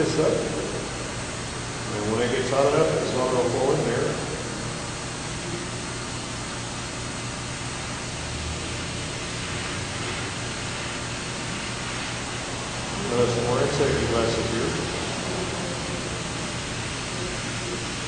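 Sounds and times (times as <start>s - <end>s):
propane torch flame hissing: 0.0s - 18.0s.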